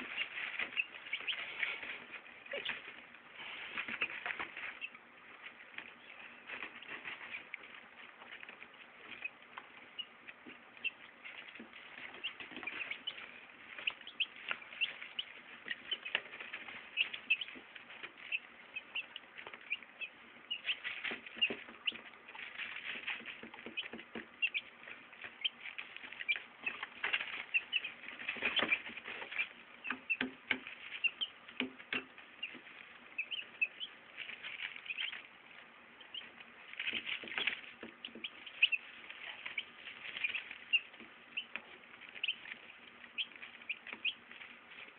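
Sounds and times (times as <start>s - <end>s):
baby chicks peeping: 0.0s - 44.9s.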